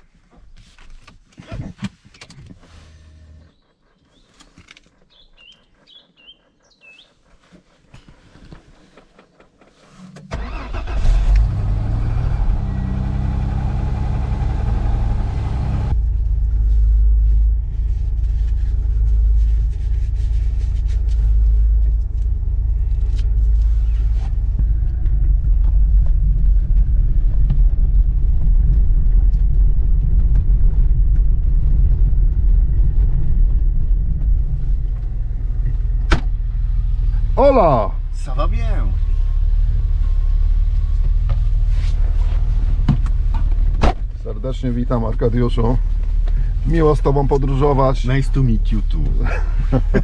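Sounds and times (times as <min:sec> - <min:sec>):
car engine low rumble: 0:00.0 - 0:50.0.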